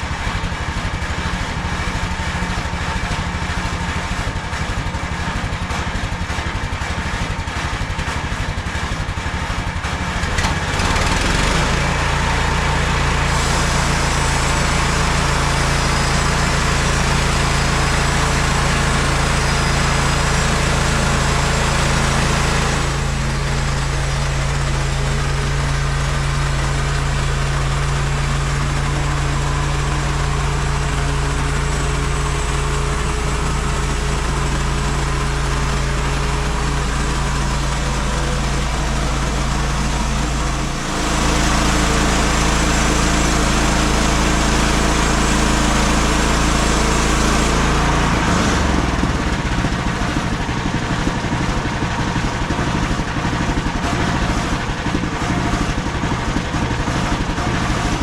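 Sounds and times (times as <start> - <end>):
sawmill gas engine running: 0.0 - 58.0.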